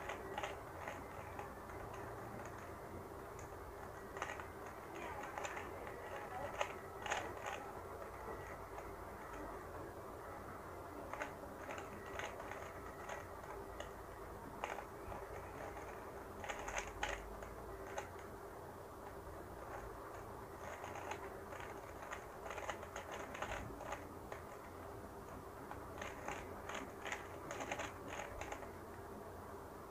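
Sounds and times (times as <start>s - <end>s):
puzzle cube clicking: 0.0s - 9.5s, 10.9s - 18.3s, 19.0s - 28.8s.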